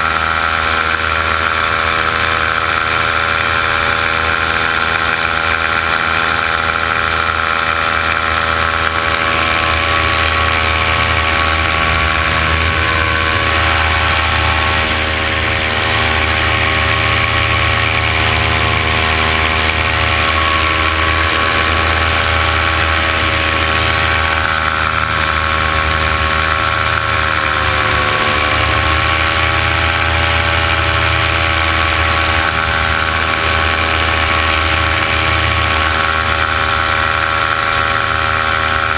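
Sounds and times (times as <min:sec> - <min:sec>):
drone propellers whining: 0:00.0 - 0:38.9.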